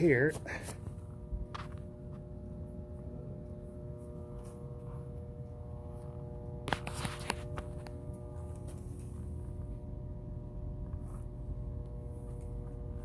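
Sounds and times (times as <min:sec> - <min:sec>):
faint multi-tone hum: 0:00.0 - 0:13.0.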